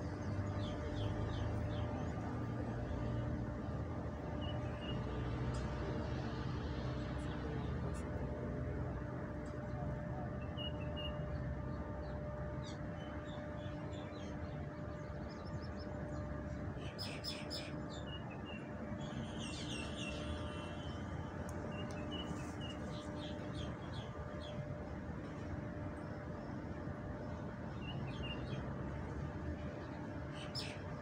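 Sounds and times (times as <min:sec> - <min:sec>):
constant hum: 0:00.0 - 0:31.0.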